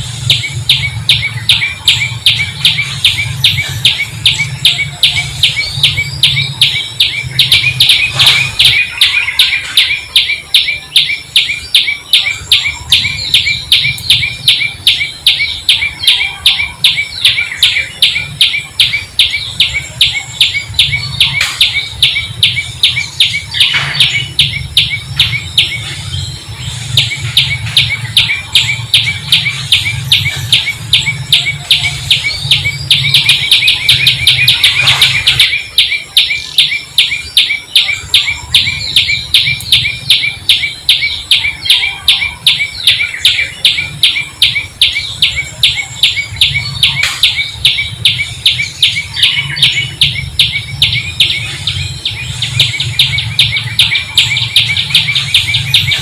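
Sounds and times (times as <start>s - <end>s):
bird chirping: 0.0s - 56.0s.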